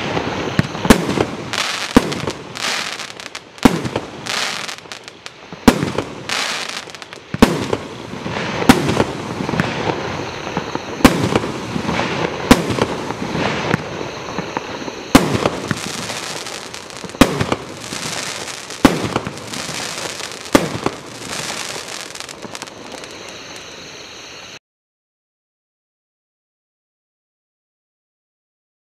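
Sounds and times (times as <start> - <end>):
firework shots: 0.0 - 23.6
firework crackle: 0.0 - 23.9.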